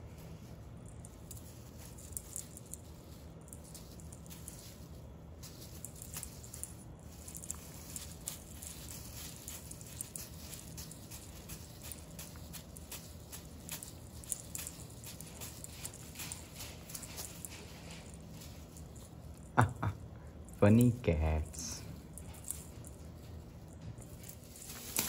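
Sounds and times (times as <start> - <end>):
wand toy rustling over carpet: 0.0 - 19.6, 20.3 - 25.0
low steady hum: 0.0 - 25.0.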